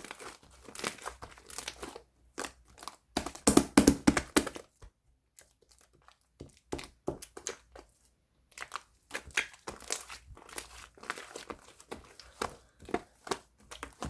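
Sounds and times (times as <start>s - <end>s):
slime crackling and popping: 0.0s - 14.0s.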